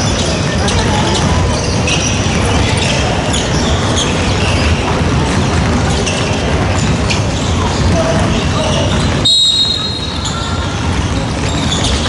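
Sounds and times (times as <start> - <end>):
sneaker squeaks on hardwood: 0.0 - 12.0.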